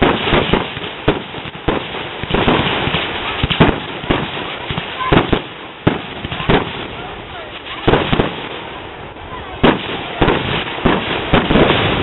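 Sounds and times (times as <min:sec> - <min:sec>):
firework shells bursting: 0:00.0 - 0:08.8, 0:09.6 - 0:12.0
fireworks crackling: 0:00.0 - 0:12.0.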